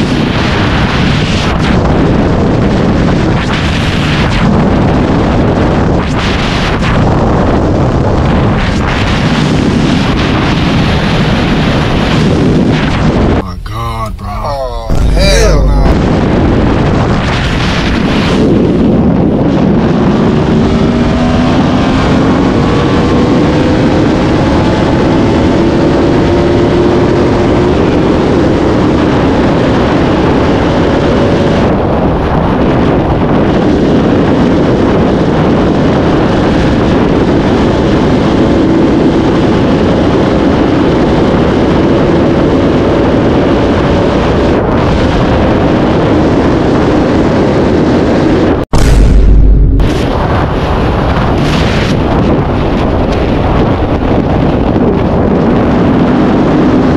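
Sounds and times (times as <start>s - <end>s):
heavy wind rush: 0.0s - 56.9s.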